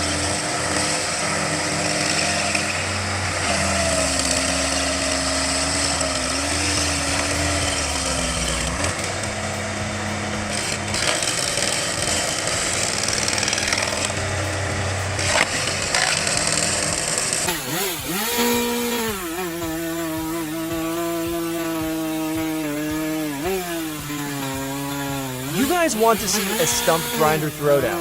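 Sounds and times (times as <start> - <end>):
machinery engine running: 0.0 - 28.0.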